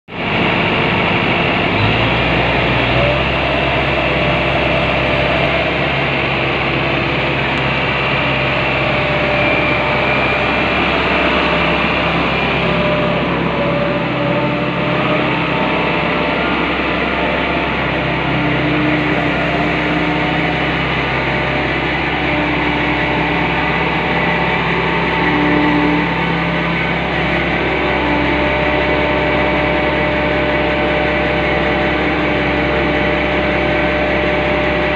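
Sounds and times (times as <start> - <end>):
diesel engine running: 0.1 - 34.9
hydraulic whining: 0.2 - 34.9.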